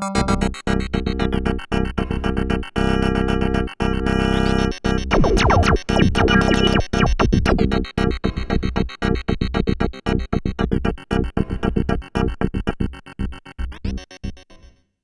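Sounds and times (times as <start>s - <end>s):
synthesizer chopped chords: 0.0s - 14.5s.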